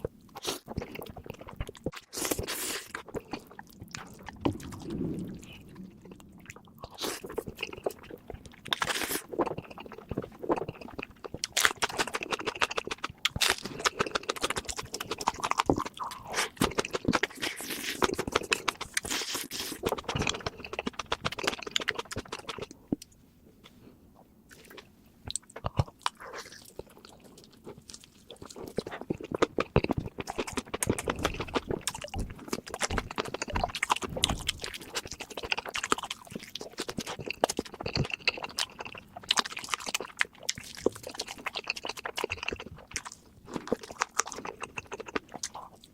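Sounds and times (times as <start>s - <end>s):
person chewing and crunching food: 0.0s - 45.9s.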